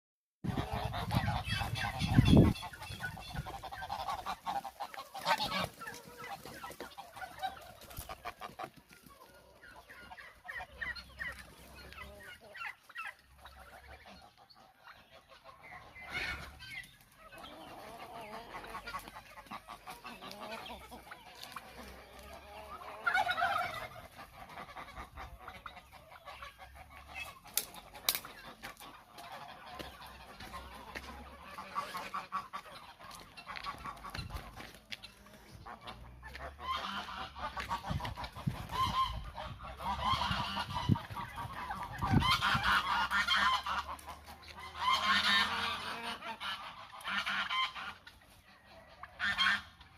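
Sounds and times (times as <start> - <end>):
hens clucking: 0.4 - 49.9
loud poultry calls: 0.4 - 49.9.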